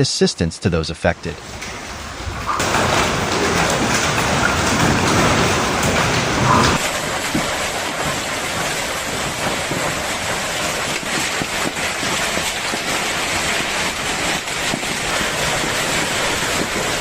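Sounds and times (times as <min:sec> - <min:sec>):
heavy rain pelting hard surfaces: 0:01.4 - 0:17.0.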